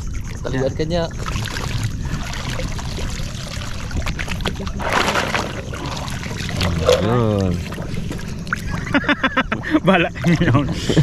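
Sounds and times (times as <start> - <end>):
low rumble: 0.0 - 11.0
water sloshing and splashing: 0.0 - 11.0.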